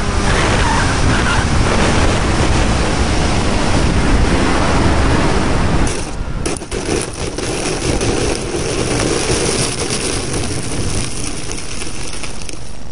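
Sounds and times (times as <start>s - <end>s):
steady noisy hum: 0.0s - 12.9s
wind rushing over microphone: 0.0s - 12.9s.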